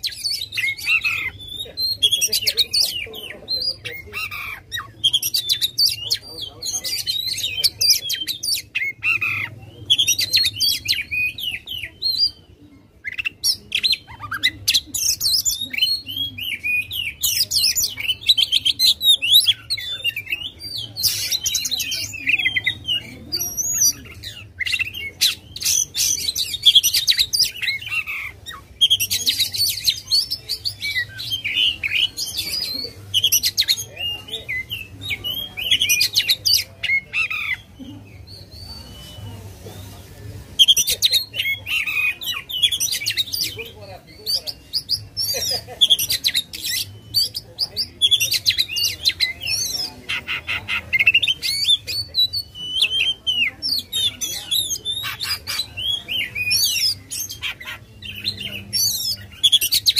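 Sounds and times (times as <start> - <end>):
bird singing varied chirps: 0.0 - 59.9.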